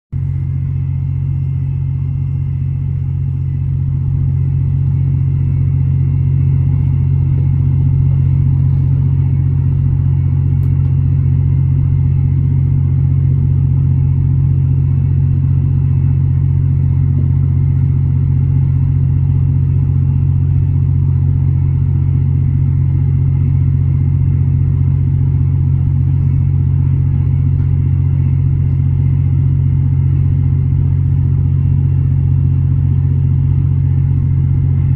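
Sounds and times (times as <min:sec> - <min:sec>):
engine droning: 0:00.2 - 0:34.9.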